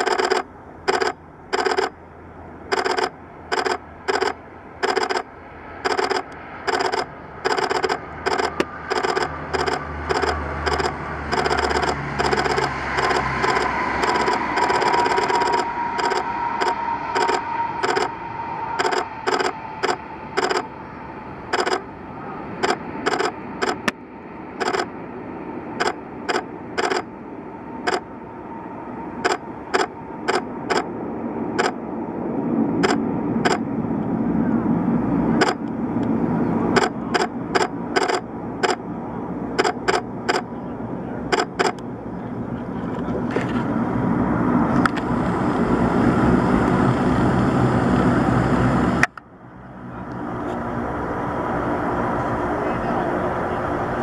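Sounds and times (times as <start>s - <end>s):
turboprop engines whine and rumble: 0.0s - 54.0s.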